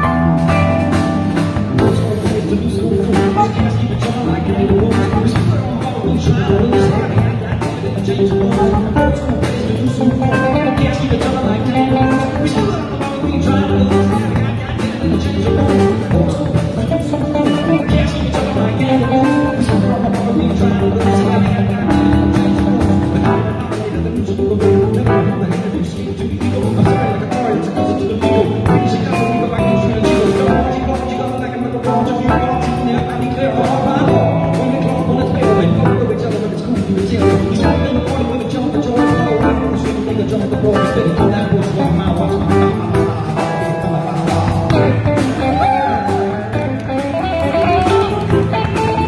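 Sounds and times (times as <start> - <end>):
electric bass: 0.0 - 49.0
electric guitar: 0.0 - 49.0
electric keyboard: 0.0 - 49.0
live band playing: 0.0 - 49.0.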